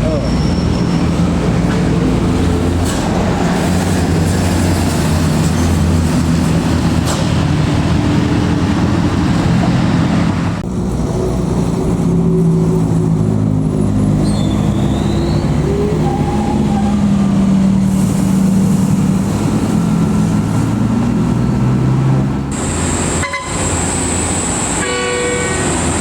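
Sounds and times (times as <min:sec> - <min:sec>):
bus diesel engine droning: 0:00.0 - 0:26.0
road noise hiss: 0:00.0 - 0:26.0.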